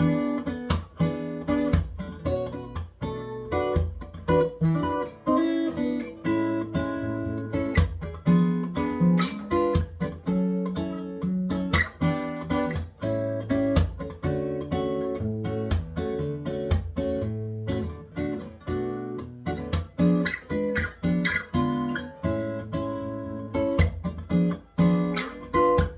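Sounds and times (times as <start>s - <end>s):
acoustic guitar fingerstyle bossa nova: 0.0s - 25.9s.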